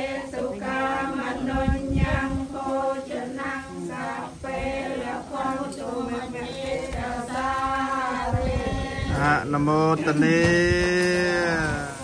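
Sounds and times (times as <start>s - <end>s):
voices chanting together: 0.0s - 12.0s.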